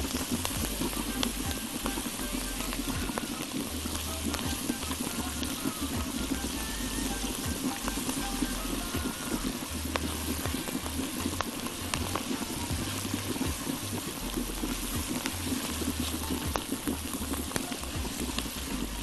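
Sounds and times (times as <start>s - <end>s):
onions sizzling in a pot: 0.0s - 19.0s.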